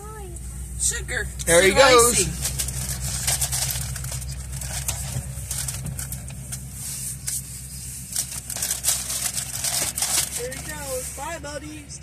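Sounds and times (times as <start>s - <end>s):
diesel locomotive drone: 0.0s - 12.0s.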